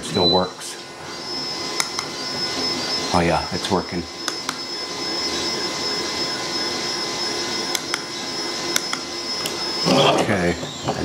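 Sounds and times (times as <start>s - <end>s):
inverter high whine: 0.0s - 11.0s.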